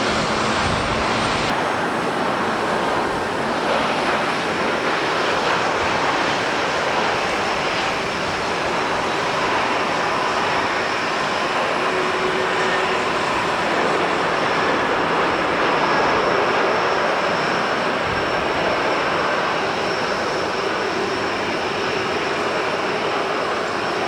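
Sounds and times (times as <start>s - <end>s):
airliner engines rushing: 0.0s - 24.0s.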